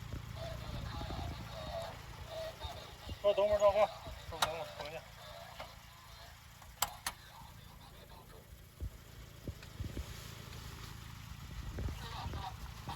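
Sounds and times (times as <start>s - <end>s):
car engine rumbling: 0.0s - 12.9s.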